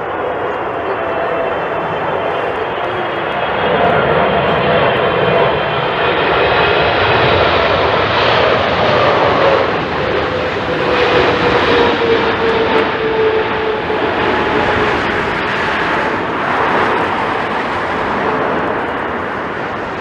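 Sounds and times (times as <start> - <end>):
jet engines passing: 0.0 - 20.0.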